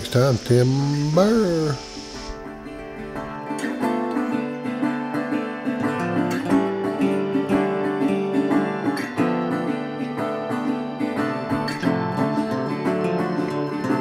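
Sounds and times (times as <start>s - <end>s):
strummed acoustic guitar music: 0.0s - 14.0s.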